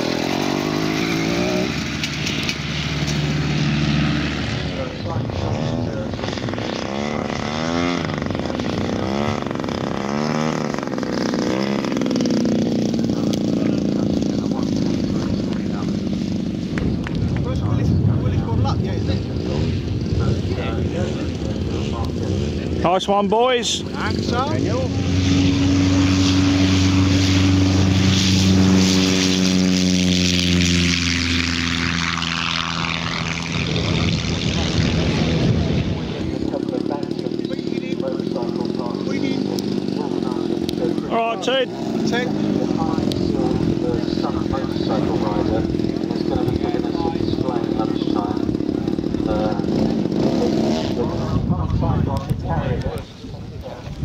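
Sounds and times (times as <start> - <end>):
model airplane engine and propeller: 0.0 - 54.0.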